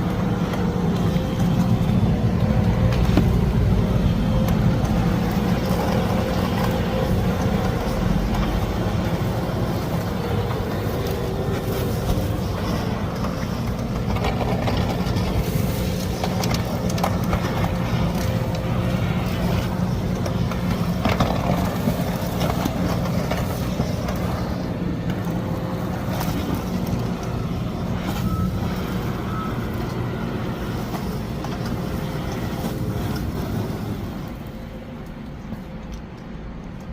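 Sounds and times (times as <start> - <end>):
road sweeper engine drone: 0.0 - 36.9.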